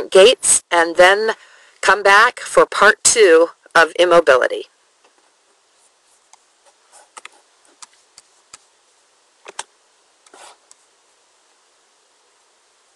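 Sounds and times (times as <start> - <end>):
faint recording hiss: 0.0 - 12.9.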